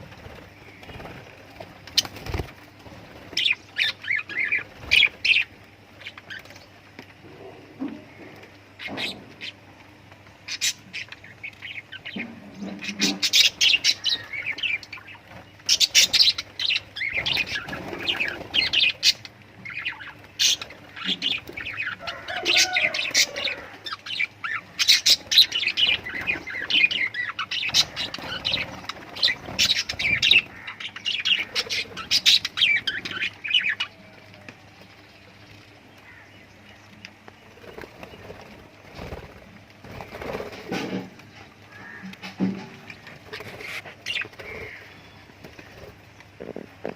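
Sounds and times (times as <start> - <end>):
lovebirds chirping and squawking: 0.0 - 46.9.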